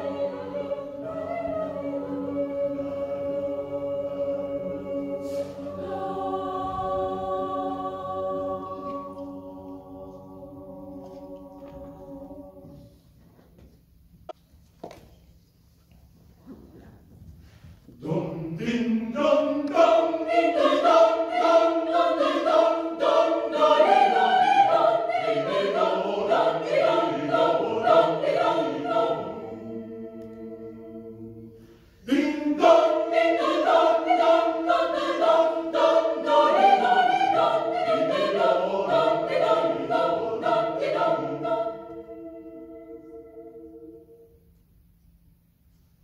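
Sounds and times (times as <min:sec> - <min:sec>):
mixed choir singing a cappella: 0:00.0 - 0:13.0, 0:17.9 - 0:44.4.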